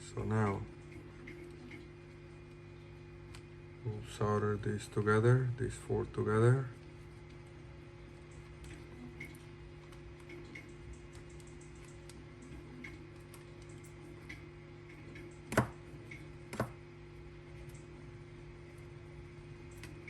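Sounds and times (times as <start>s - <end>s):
steady low hum: 0.0s - 20.0s
wires and tools ticking and tapping: 0.0s - 20.0s.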